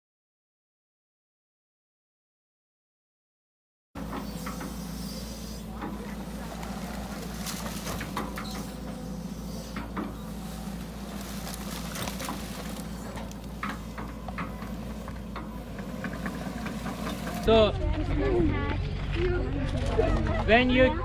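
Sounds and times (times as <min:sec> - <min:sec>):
excavator diesel engine running: 0:04.0 - 0:21.0.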